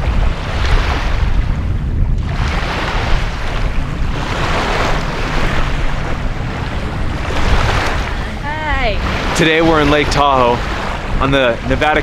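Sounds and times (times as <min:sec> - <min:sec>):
waves washing on sandy shore: 0:00.0 - 0:12.0
wind rumble on microphone: 0:00.0 - 0:12.0.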